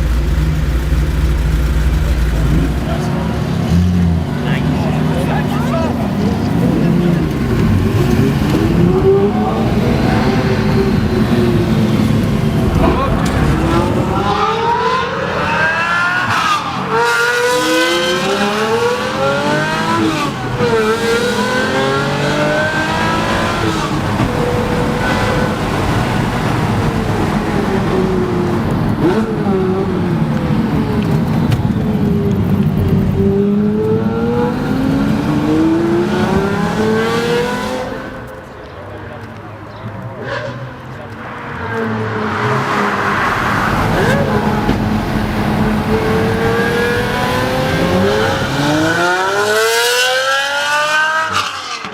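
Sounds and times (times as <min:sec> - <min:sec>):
car engine revving hard: 0:00.0 - 0:38.5, 0:40.2 - 0:51.9.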